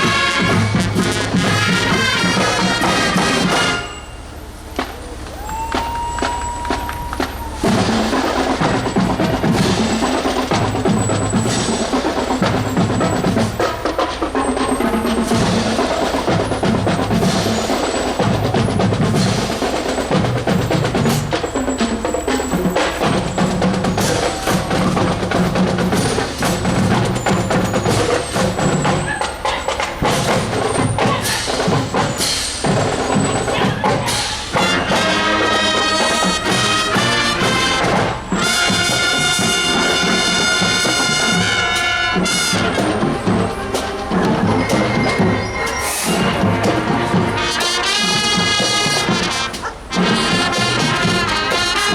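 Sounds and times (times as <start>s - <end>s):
brass section playing: 0.0s - 51.9s
drum line playing a cadence: 0.0s - 51.9s.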